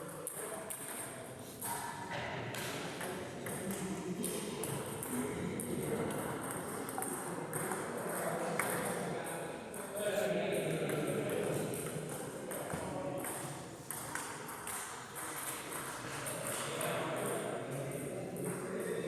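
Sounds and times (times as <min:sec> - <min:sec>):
murmur of voices: 0:01.2 - 0:14.6, 0:15.6 - 0:19.0.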